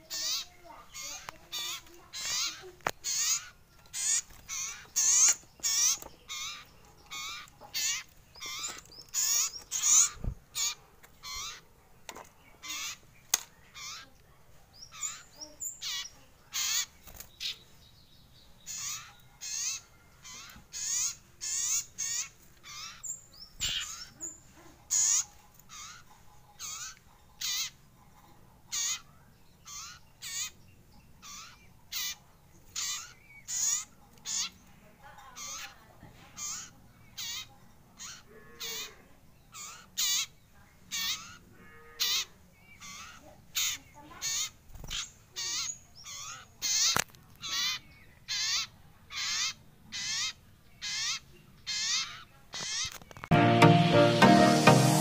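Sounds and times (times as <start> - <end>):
young bird chirping: 0.0 - 11.6, 12.4 - 14.2, 14.8 - 34.7, 36.4 - 53.3.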